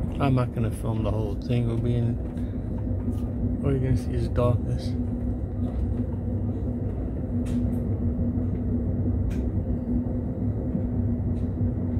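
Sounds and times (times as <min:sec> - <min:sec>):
train rumbling in tunnel: 0:00.0 - 0:11.9.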